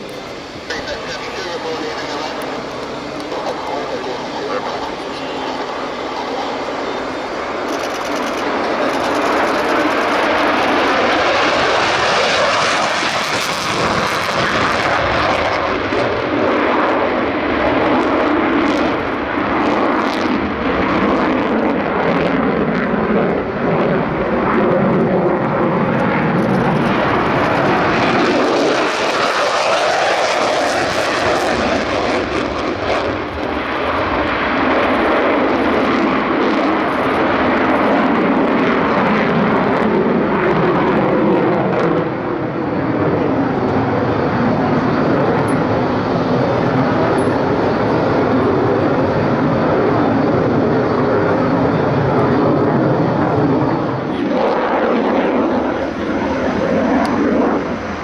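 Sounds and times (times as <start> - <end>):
jet taking off: 0.0 - 58.0.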